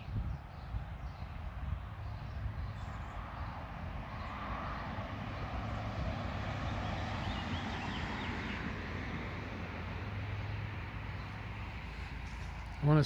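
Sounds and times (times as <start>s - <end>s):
road traffic tyre noise: 0.0s - 13.0s.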